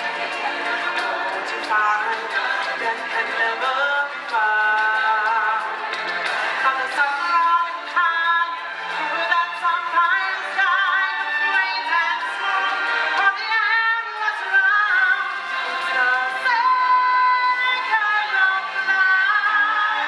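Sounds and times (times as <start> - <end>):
woman singing with vibrato: 0.0 - 5.9, 6.5 - 20.0.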